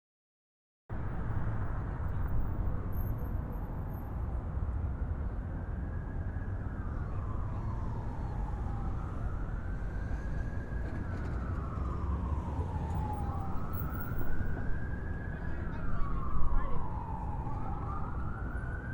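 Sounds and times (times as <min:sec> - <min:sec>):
traffic rumble: 0:00.9 - 0:18.9
emergency siren wailing: 0:01.9 - 0:18.9.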